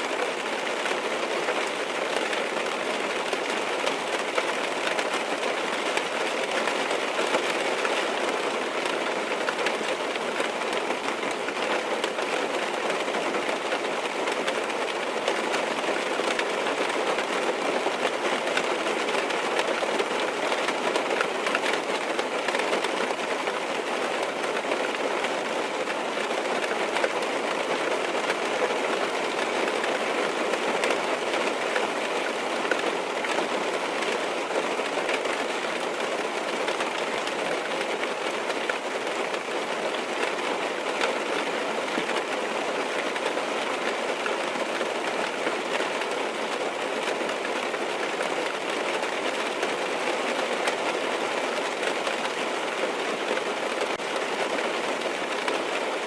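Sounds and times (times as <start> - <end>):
rain pattering on car roof: 0.0 - 56.0.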